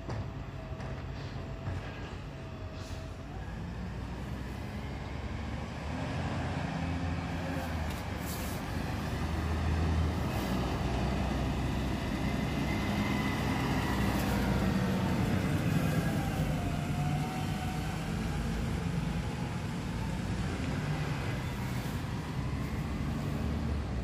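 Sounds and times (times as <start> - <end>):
garbage truck diesel engine: 0.0 - 24.0.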